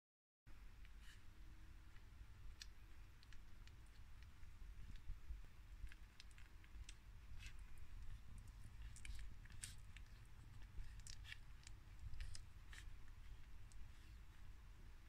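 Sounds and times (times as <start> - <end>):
puppies suckling wet smacking: 1.0 - 15.0.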